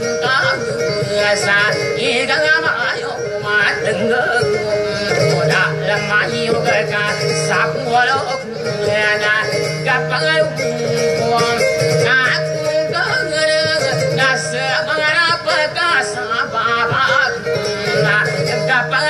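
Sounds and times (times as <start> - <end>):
person singing wavering melody: 0.0 - 19.0.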